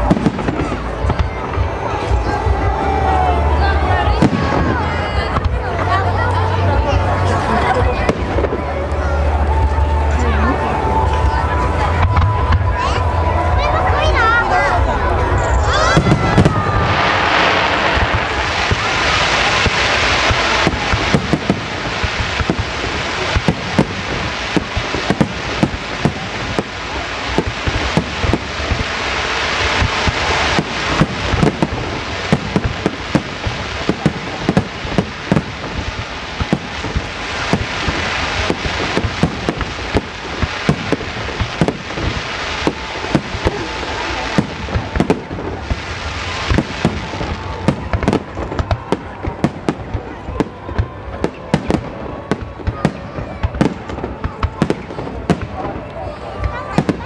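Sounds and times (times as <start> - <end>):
continuous crackling hiss: 0.0 - 57.0
fireworks bangs: 0.0 - 57.0.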